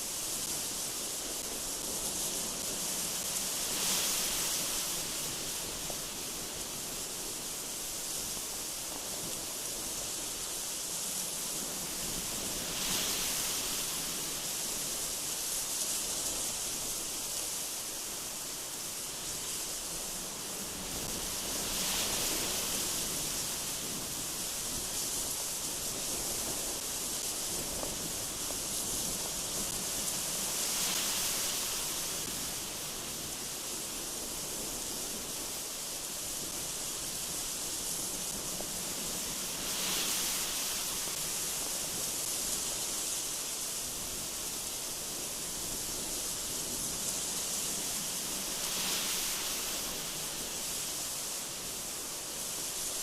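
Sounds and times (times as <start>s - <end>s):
gusty wind through trees: 0.0s - 53.0s.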